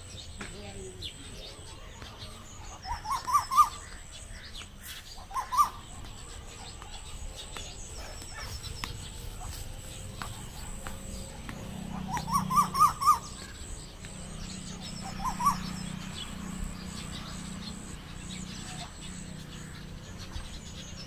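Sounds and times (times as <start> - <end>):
bird calling: 0.0 - 21.0.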